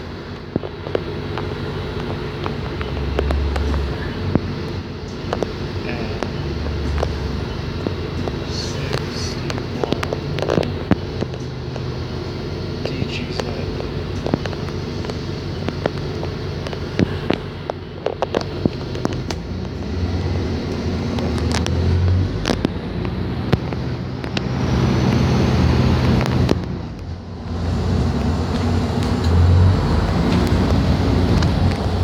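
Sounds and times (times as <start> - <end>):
bus engine running: 0.0 - 32.0
road noise: 0.0 - 32.0.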